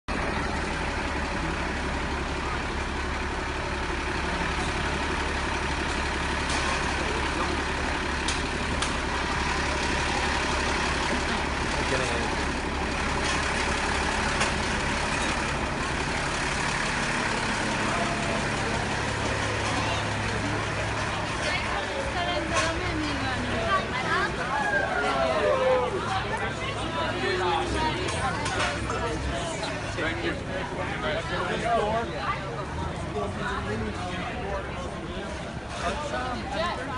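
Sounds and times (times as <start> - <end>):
fire truck engine idling: 0.1 - 36.9.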